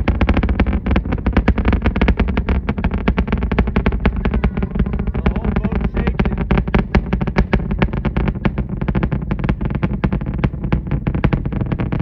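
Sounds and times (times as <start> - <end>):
distant rocket engines rumbling: 0.0 - 12.0.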